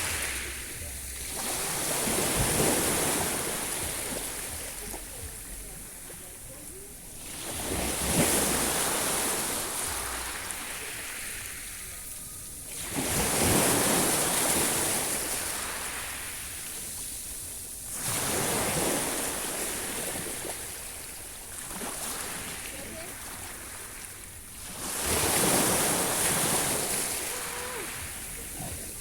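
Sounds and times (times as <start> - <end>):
sea waves breaking: 0.0 - 29.0.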